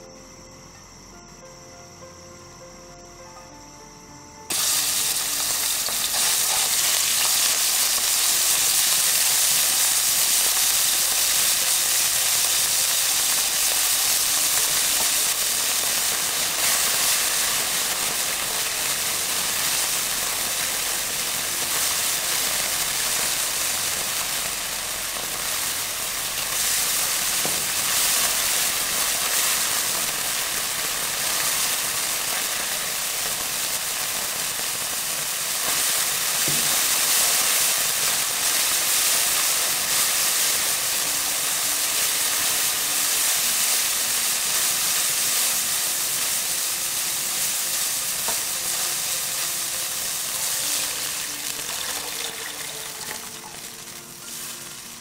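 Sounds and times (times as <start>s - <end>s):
meat sizzling in oil: 4.5s - 55.0s.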